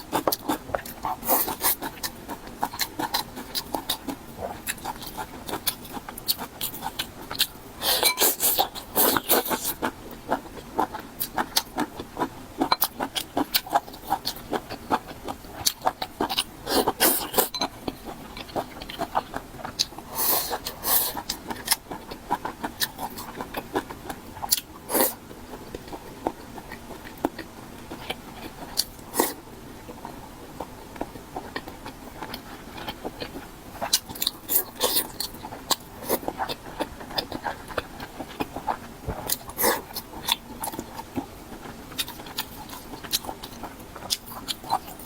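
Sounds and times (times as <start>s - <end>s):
person chewing food: 0.0s - 45.0s.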